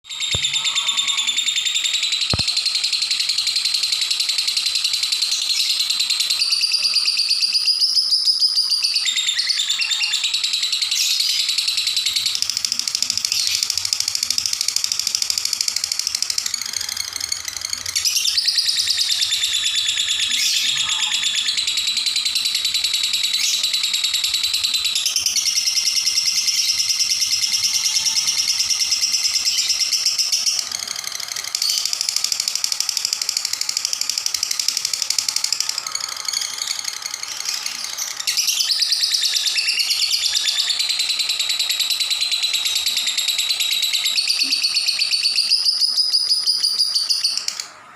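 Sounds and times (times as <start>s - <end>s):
lovebird chattering trill: 0.1s - 47.7s.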